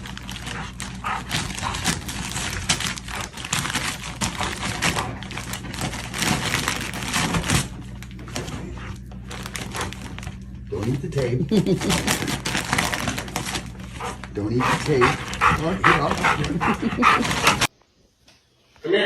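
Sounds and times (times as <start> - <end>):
dog tearing wrapping paper: 0.0 - 17.7.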